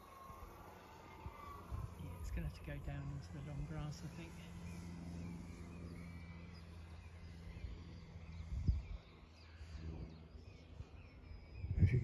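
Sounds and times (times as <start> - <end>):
faint bird chirps: 0.0 - 12.0
model plane motor droning: 0.0 - 12.0.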